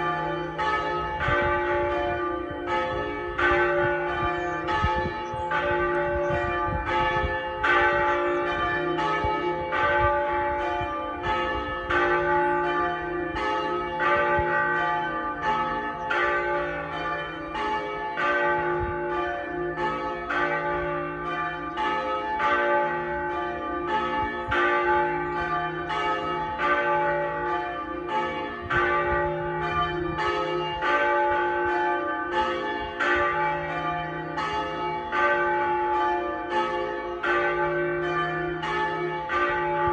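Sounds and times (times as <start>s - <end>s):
church tower bells ringing: 0.0s - 39.9s.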